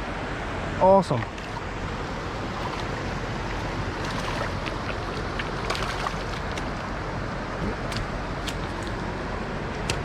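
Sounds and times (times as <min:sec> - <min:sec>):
creek water rushing: 0:00.0 - 0:09.7.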